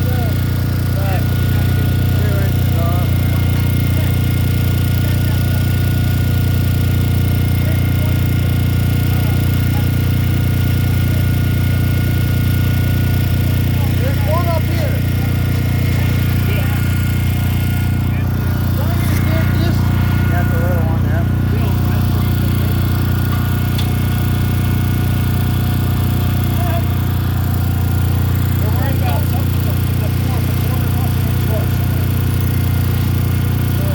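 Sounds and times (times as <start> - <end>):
core drill buzzing hum: 0.0 - 33.9
low machinery drone: 0.0 - 33.9.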